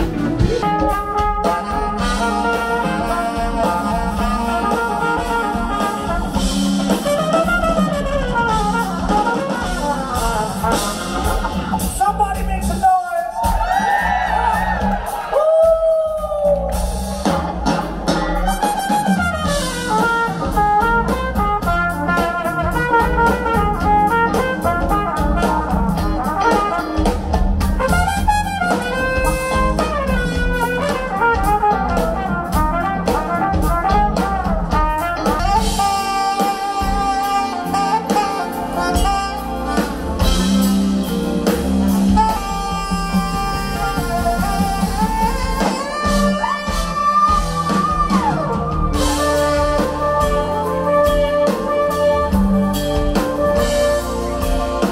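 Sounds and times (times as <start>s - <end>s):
saxophone melody: 0.0s - 11.9s, 16.1s - 54.9s
smooth jazz band playing: 0.0s - 54.9s.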